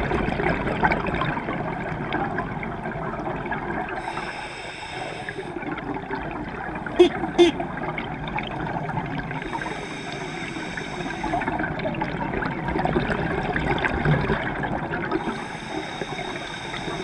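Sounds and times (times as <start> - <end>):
scuba regulator exhaust bubbles: 0.0 - 17.0.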